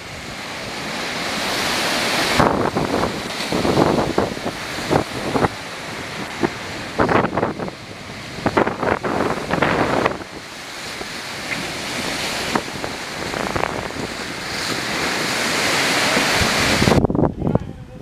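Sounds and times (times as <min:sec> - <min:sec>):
wind rushing across microphone: 0:00.0 - 0:18.0.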